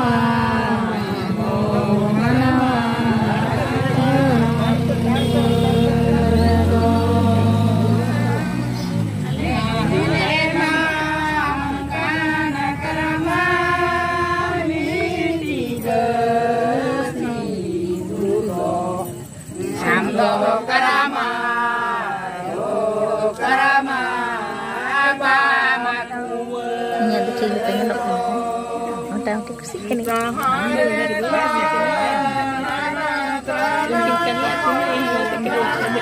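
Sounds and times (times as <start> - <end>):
group of voices singing: 0.0 - 36.0.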